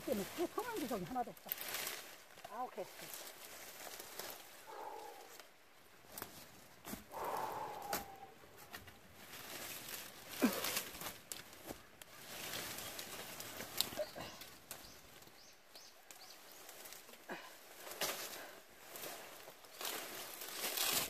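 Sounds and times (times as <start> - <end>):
brambles rustling and crackling: 0.0 - 21.0.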